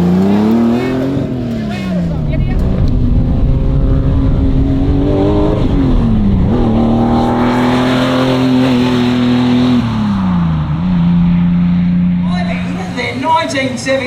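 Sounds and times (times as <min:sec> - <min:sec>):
rally car engine at high revs: 0:00.0 - 0:13.9.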